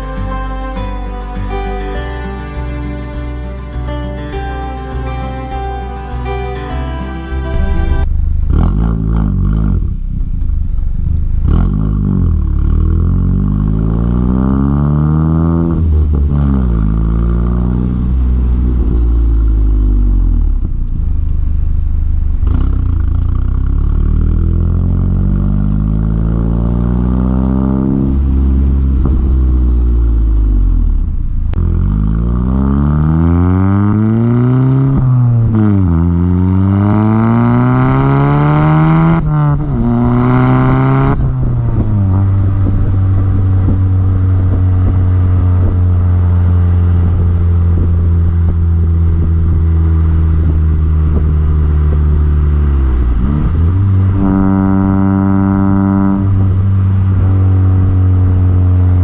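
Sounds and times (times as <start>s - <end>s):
car exhaust accelerating: 0.0s - 59.0s.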